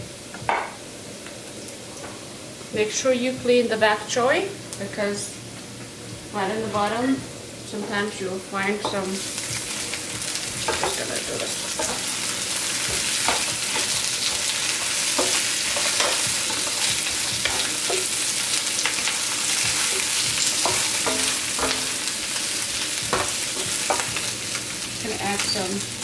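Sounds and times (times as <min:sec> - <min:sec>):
greens sizzling in a wok: 0:00.0 - 0:26.0.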